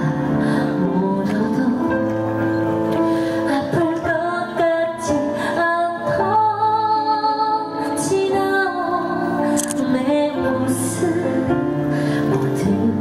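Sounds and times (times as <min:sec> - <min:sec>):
woman singing a slow ballad: 0:00.0 - 0:13.0.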